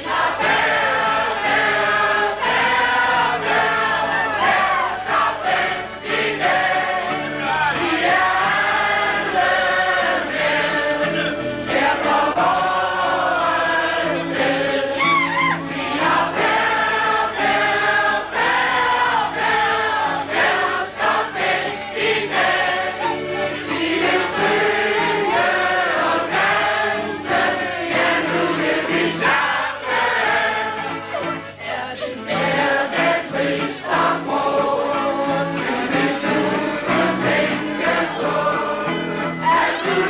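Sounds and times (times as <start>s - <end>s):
group singing: 0.0s - 40.0s
instrumental accompaniment: 0.0s - 40.0s.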